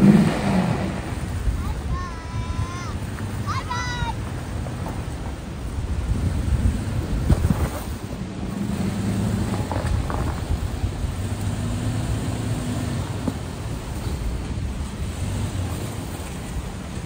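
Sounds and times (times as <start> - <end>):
truck engine running low revs: 0.0 - 17.0.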